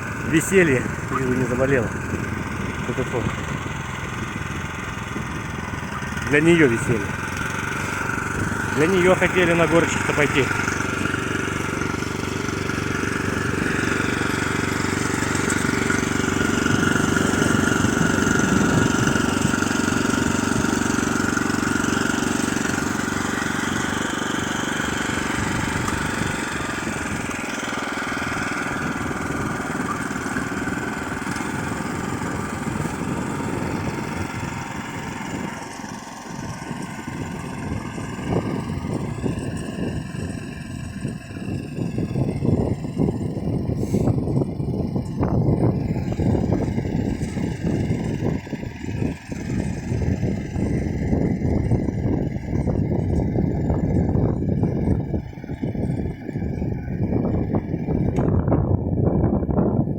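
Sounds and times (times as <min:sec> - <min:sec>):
walk-behind tractor engine running: 0:00.0 - 0:59.9.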